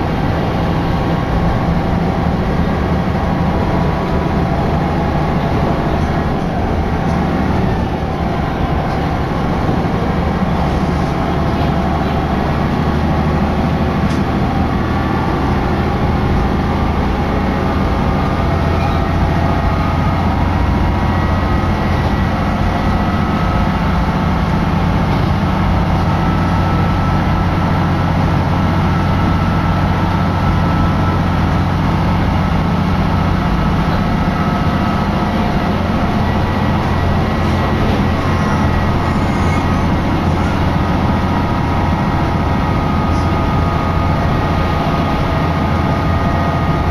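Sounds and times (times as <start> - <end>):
railcar engine drone: 0.0 - 46.9.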